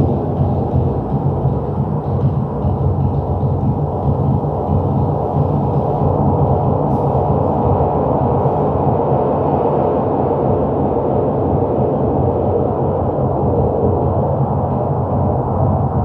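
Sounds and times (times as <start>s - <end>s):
low electronic drone: 0.0s - 16.0s.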